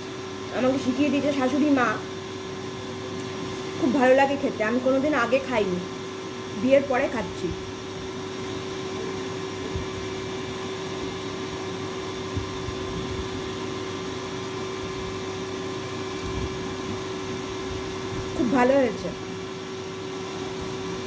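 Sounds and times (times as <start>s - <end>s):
water pump motor humming: 0.0s - 21.0s.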